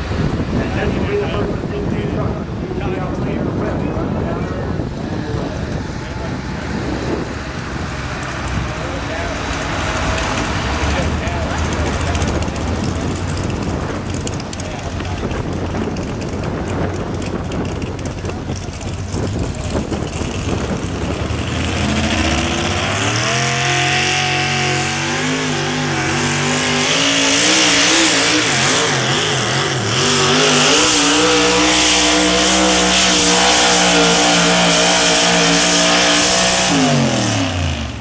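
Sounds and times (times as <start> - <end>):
tractor engine revving high: 2.5 - 38.0.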